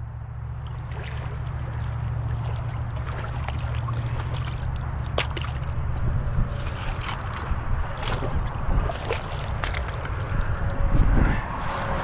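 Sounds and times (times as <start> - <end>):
low rumble: 0.0 - 12.0
creek water over rocks: 0.2 - 12.0.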